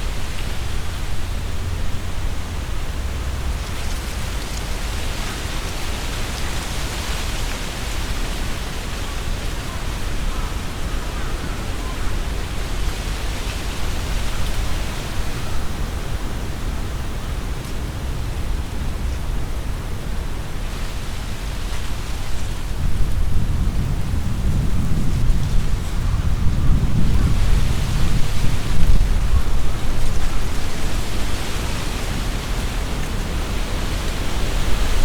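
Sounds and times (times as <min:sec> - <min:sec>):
deep wind rumble: 0:00.0 - 0:35.0
wind rustling tree leaves: 0:00.0 - 0:35.0.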